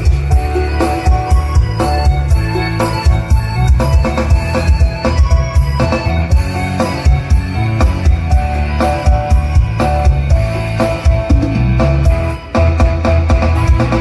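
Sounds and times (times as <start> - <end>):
music with drums and heavy bass: 0.0 - 14.0.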